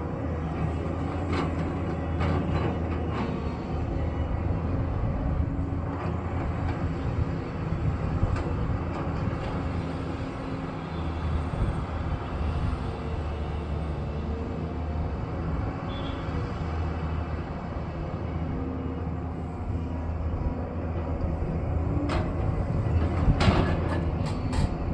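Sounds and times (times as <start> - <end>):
diesel engine droning: 0.0 - 24.9.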